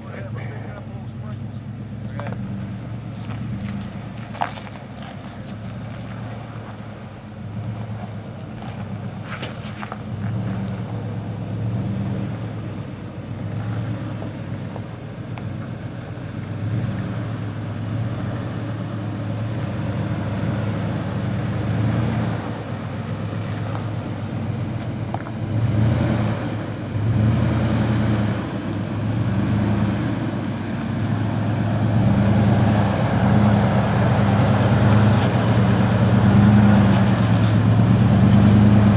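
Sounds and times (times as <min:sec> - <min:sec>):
truck engine crawling over rocks: 0:00.0 - 0:38.9.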